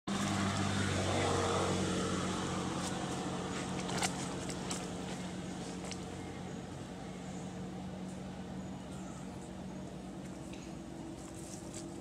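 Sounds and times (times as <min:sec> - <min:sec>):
engine humming: 0:00.1 - 0:12.0.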